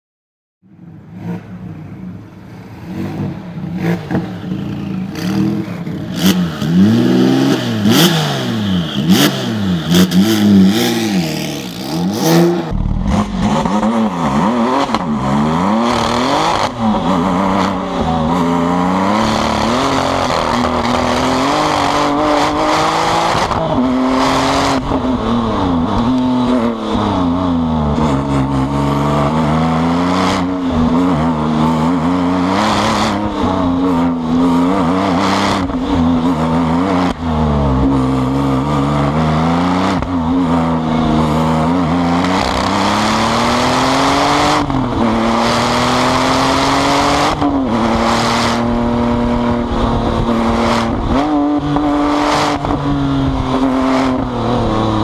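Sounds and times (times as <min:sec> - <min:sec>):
sports car engine revving: 0:01.0 - 0:55.0.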